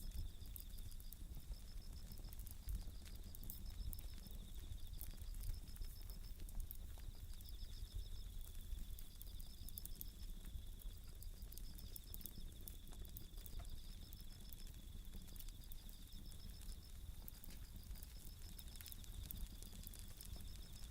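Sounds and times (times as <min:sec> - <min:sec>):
crickets pulsing trills: 0:00.0 - 0:20.9
wood fire crackling: 0:00.0 - 0:20.9.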